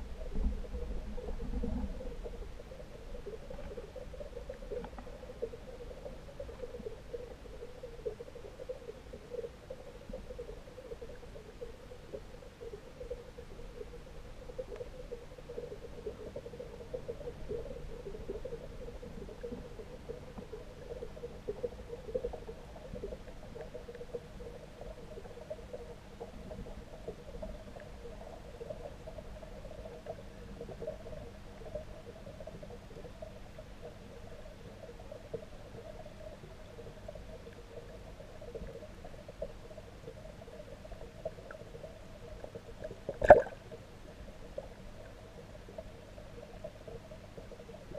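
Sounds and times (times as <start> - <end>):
muffled underwater hum: 0.0 - 47.9.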